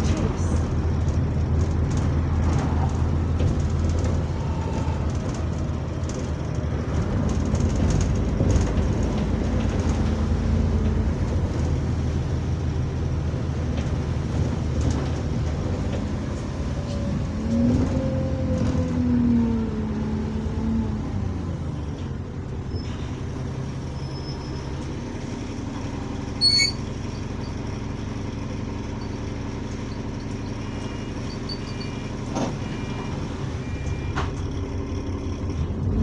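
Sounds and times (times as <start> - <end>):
bus engine droning: 0.0 - 36.0
engine whine: 0.0 - 36.0.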